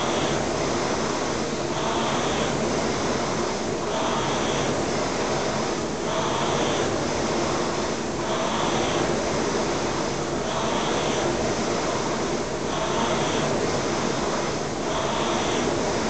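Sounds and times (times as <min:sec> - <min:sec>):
rowing machine flywheel whirring: 0:00.0 - 0:16.0.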